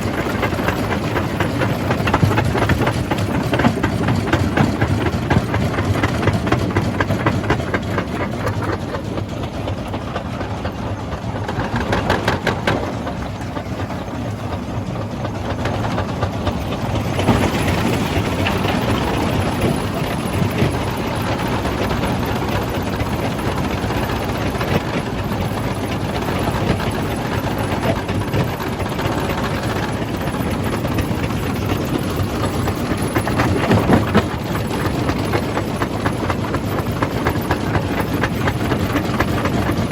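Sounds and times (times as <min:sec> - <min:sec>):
rock crusher machine drone: 0:00.0 - 0:39.9.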